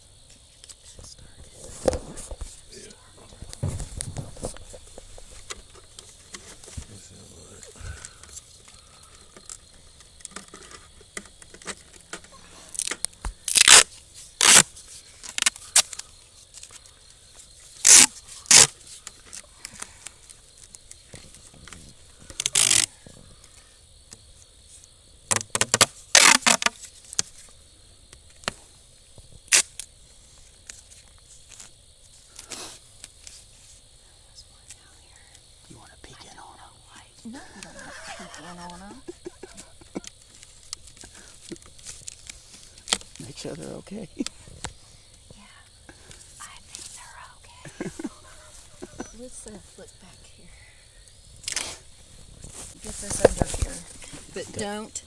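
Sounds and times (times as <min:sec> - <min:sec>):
faint steady high hiss: 0:00.0 - 0:55.0.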